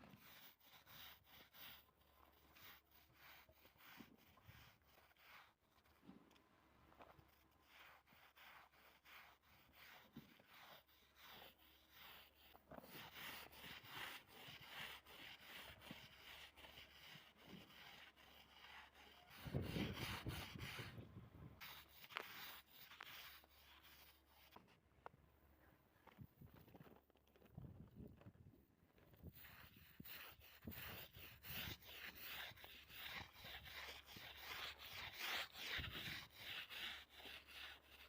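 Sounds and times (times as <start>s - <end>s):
cloth scrubbing a surface: 0.0s - 6.0s, 7.2s - 21.0s, 21.6s - 24.6s, 29.2s - 38.0s.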